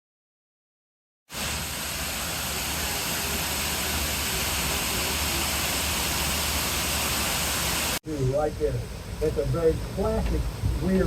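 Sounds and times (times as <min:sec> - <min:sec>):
low engine hum: 0:01.6 - 0:11.0.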